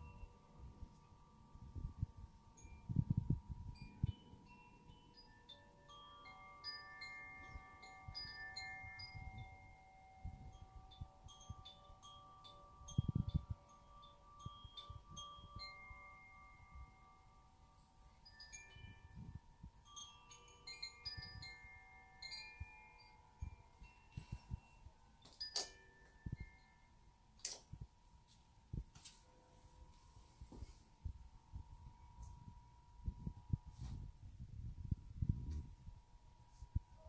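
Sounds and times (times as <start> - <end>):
wind chime tinkling: 0.0 - 28.3, 29.2 - 37.0.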